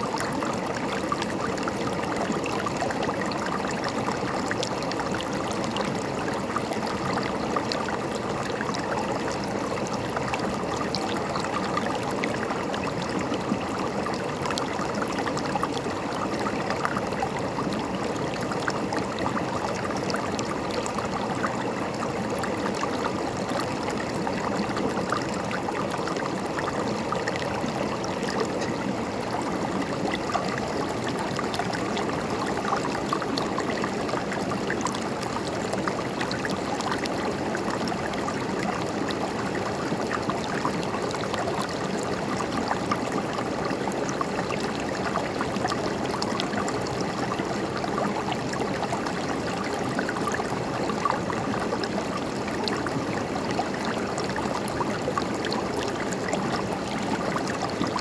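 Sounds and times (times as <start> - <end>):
river water babbling over rocks: 0.0 - 58.0.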